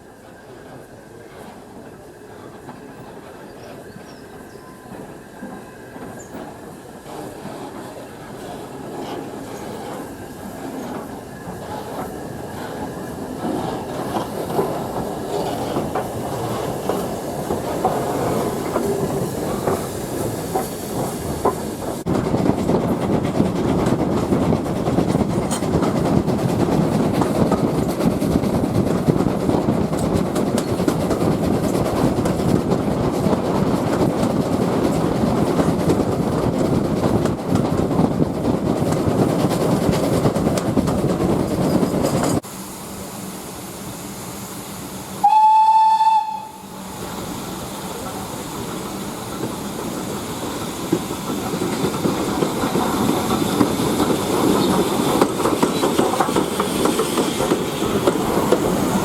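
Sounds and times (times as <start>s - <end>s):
train wheels clattering on track: 0.0s - 42.5s, 47.8s - 59.0s.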